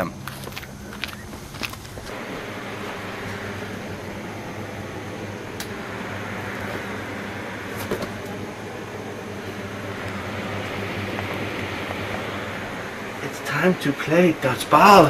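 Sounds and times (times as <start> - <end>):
even hiss: 0.0 - 15.0
mechanical hum: 0.0 - 15.0.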